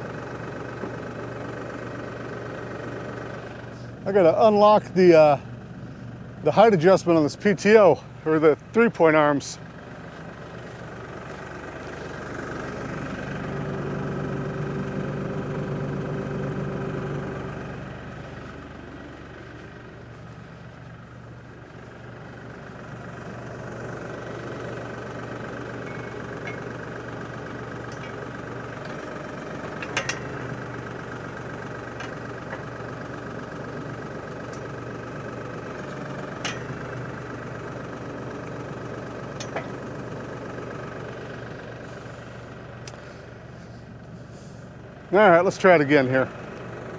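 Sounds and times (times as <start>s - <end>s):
engine whine: 0.0s - 46.9s
tractor diesel engine idling: 0.0s - 46.9s.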